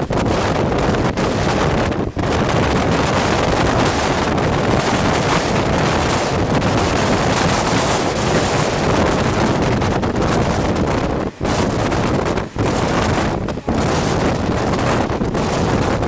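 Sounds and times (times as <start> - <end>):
freight train passing: 0.0 - 16.0
moving passenger train: 0.0 - 16.0
wind buffeting microphone: 0.0 - 16.0.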